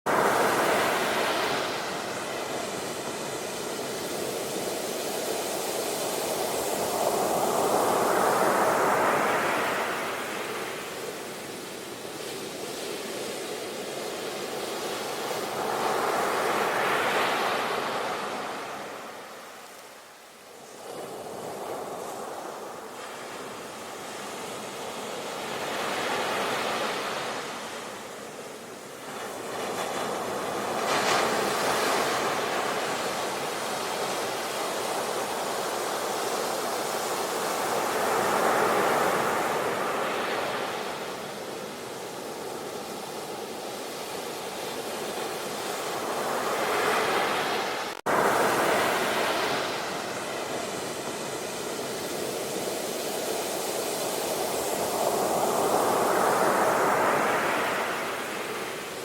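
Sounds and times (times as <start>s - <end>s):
ocean waves breaking: 0.1s - 11.6s, 20.6s - 59.0s.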